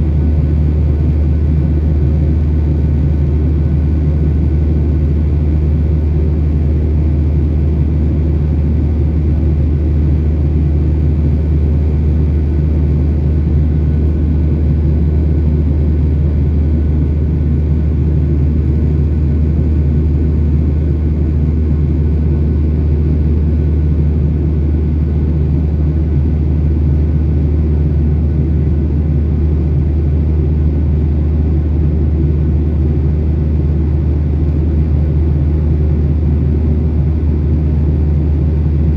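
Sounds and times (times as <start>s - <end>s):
jet engines and airflow rumble: 0.0s - 38.9s.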